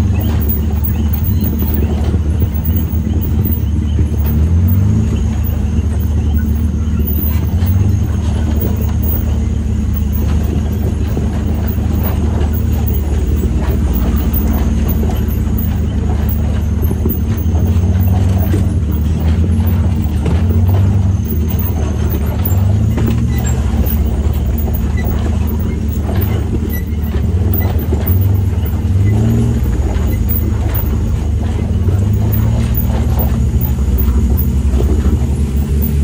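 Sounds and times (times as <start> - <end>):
engine droning: 0.0 - 36.0.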